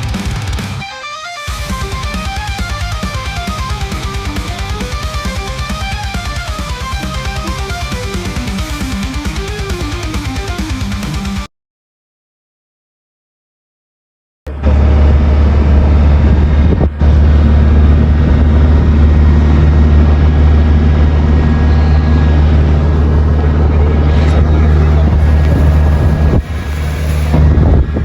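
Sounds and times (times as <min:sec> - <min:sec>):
loud engine running: 0:00.0 - 0:11.5, 0:14.5 - 0:28.0.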